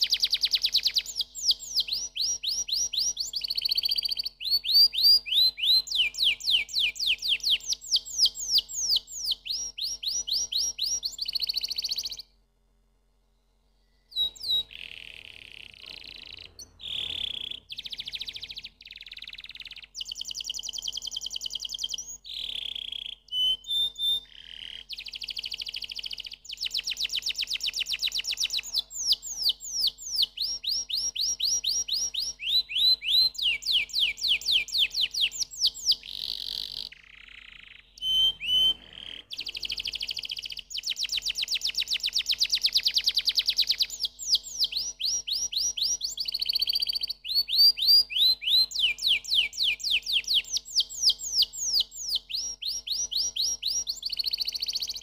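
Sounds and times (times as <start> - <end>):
canary singing trills: 0.0 - 12.3, 13.9 - 55.0.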